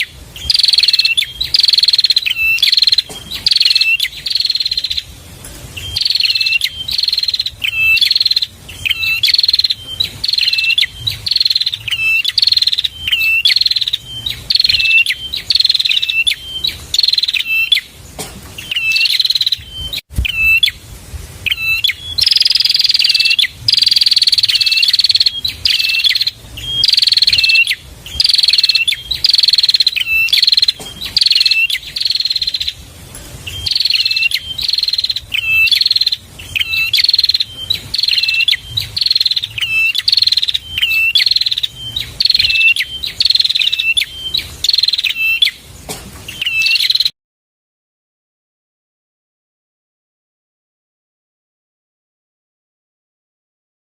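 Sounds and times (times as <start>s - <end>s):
bird chirping: 0.0s - 20.8s, 21.4s - 47.1s.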